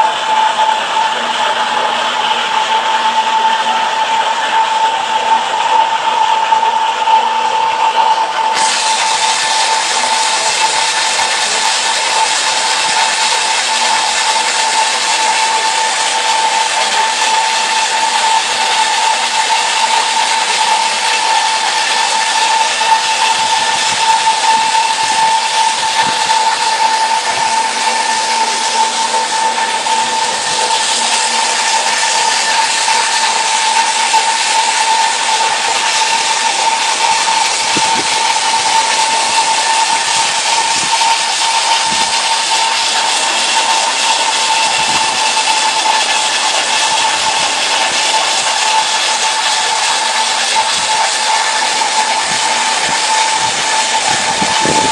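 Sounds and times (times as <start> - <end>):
wire saw cutting stone: 0.0 - 54.9.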